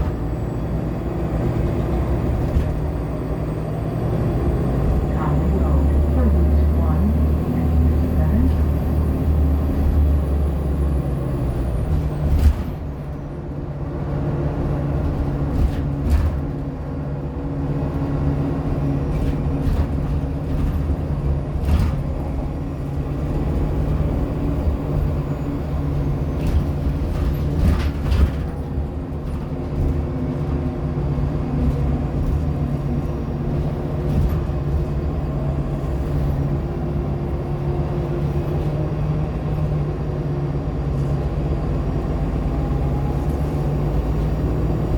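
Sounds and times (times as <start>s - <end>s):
bus drivetrain humming: 0.0s - 44.9s.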